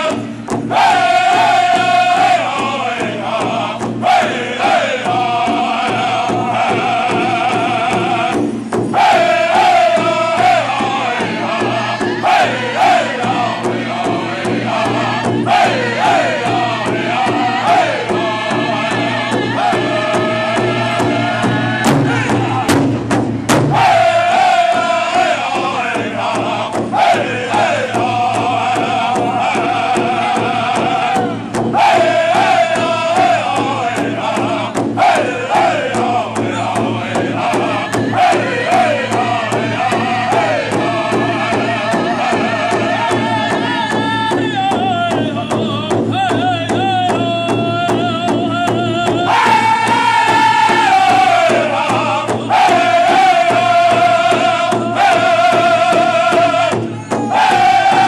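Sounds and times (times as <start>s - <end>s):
men singing in high voices: 0.0s - 23.1s, 23.7s - 58.0s
large drum beat: 0.0s - 58.0s.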